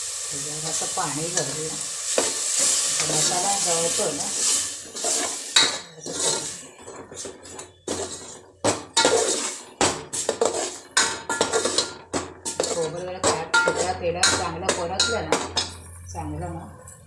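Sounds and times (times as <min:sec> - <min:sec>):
steel ladle scraping a metal pot: 0:01.2 - 0:16.0.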